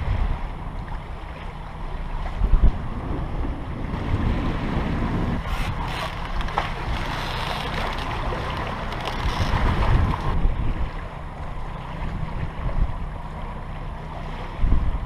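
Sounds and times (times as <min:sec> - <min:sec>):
wind buffeting microphone: 0:00.0 - 0:13.5, 0:14.1 - 0:15.0
water rushing along hull: 0:00.0 - 0:15.0.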